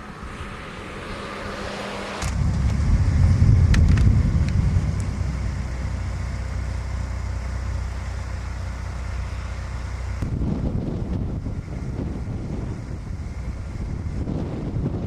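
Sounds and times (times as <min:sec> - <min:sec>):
broad rushing noise: 0:00.0 - 0:15.0
car engine and road rumble: 0:00.0 - 0:15.0.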